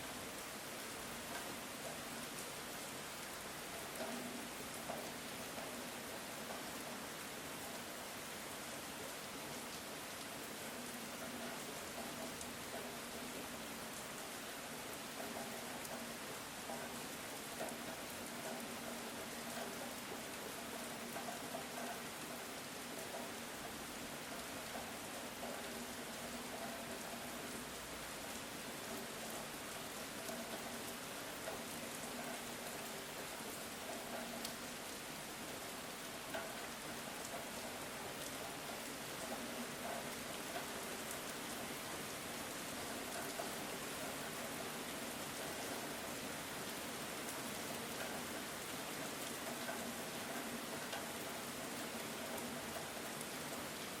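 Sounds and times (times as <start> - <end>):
raindrops ticking: 1.2 - 54.0.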